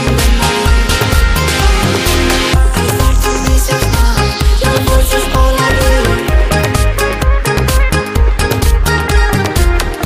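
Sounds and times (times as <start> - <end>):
loud music with heavy bass beat: 0.0 - 10.0.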